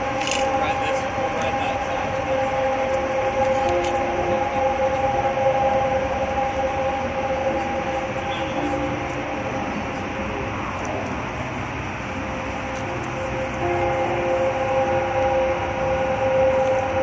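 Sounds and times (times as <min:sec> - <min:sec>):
subway train rushing: 0:00.0 - 0:17.0
two-note whine: 0:00.0 - 0:17.0.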